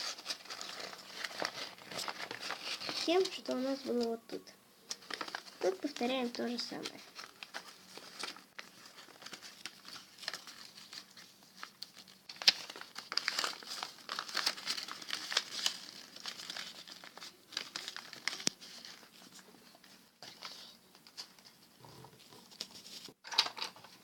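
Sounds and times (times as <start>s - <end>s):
paper being folded and creased: 0.0s - 24.0s.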